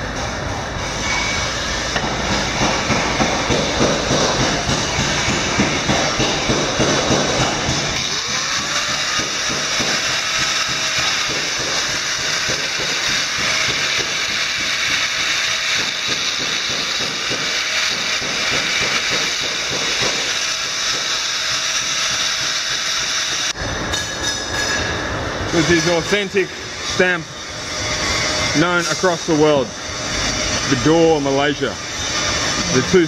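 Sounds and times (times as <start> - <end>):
angle grinder grinding steel blade: 0.8 - 24.8, 25.5 - 33.0.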